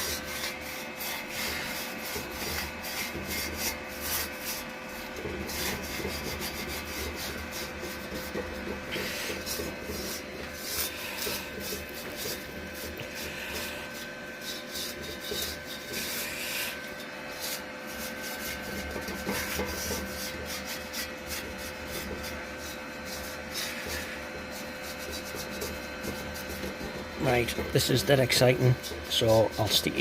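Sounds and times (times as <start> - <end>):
scratchy paint brush strokes: 0.0 - 30.0.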